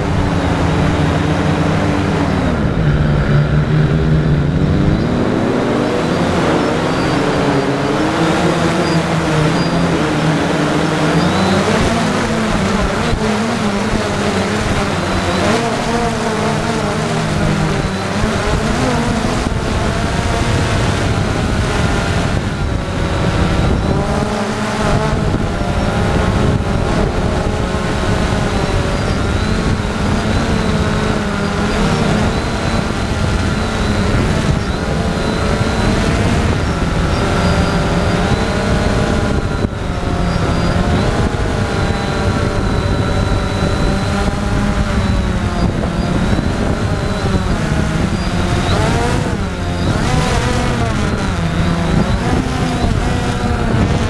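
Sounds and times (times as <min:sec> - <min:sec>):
drone motors and propellers whining: 0:00.0 - 0:54.0.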